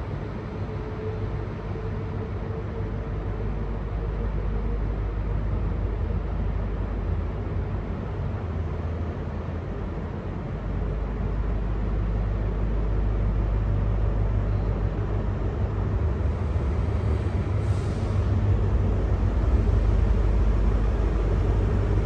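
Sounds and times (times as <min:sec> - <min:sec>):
vehicle low rumble: 0:00.0 - 0:22.0.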